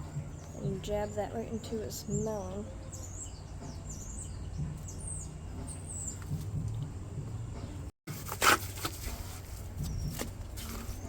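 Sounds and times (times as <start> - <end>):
small birds chirping: 0.0 - 7.9, 9.8 - 11.0.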